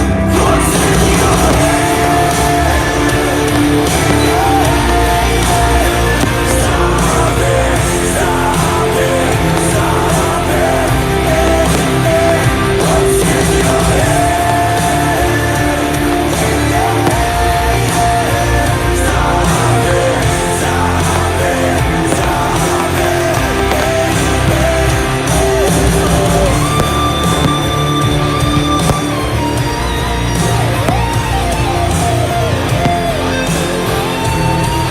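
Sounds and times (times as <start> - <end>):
rock song with guitar and singing: 0.0 - 34.9.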